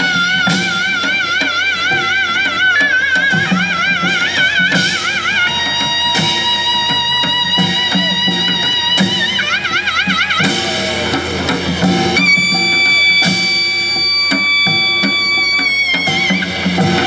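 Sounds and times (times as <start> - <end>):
percussion strikes: 0.0 - 17.0.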